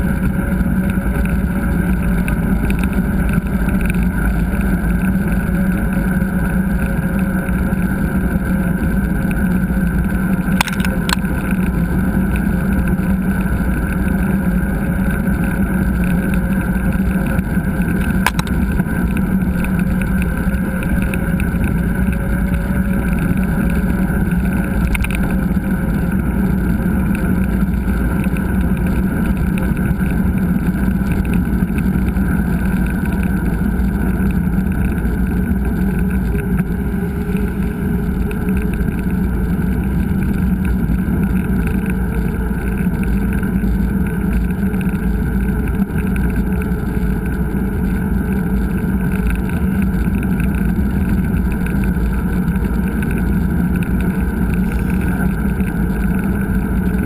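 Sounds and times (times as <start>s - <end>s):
mountain bike riding noise: 0.0s - 57.0s
bike clicks and rattles: 0.2s - 57.0s.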